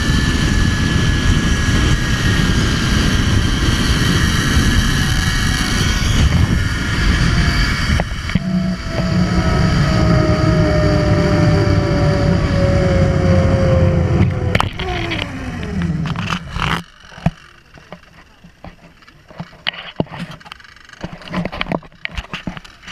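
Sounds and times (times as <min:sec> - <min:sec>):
zip line pulleys whirring: 0:00.0 - 0:22.9.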